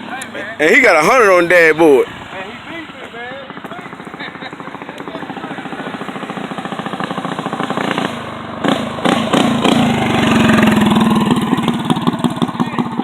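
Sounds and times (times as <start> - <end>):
mini bike engine revving: 0.0 - 13.0.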